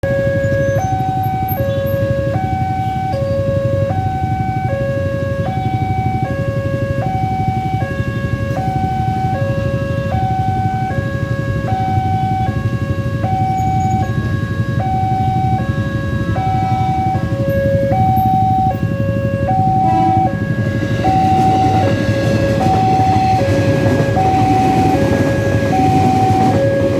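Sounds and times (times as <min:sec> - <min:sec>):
two-tone warning siren: 0:00.0 - 0:26.9.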